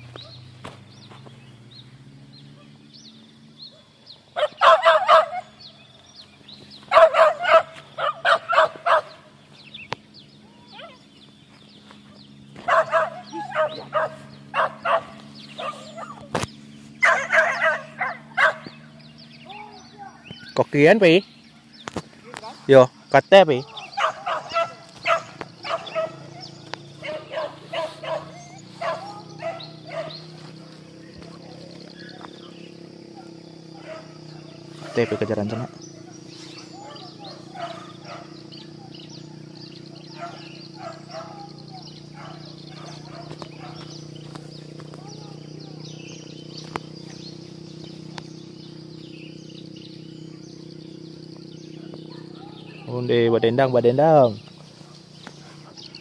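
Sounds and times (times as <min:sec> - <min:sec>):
dogs barking: 0:03.6 - 0:09.6, 0:11.8 - 0:20.5, 0:23.5 - 0:56.0.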